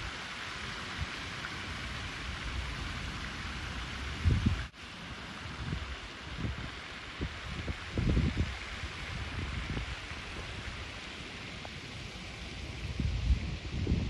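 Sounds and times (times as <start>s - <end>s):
wind buffeting microphone: 0.0s - 4.7s, 5.4s - 11.0s, 11.8s - 14.0s
steady rushing hiss: 0.0s - 14.0s.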